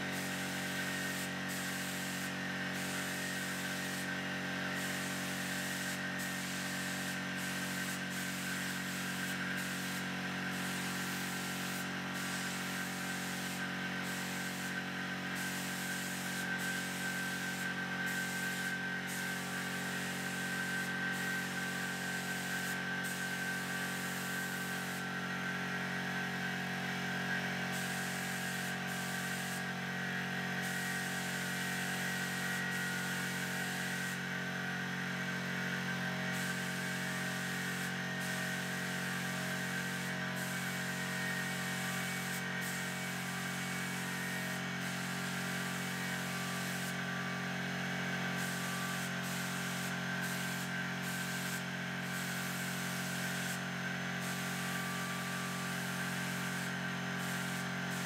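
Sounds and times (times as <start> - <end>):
air spray gun hissing: 0.0 - 34.4, 35.6 - 58.0.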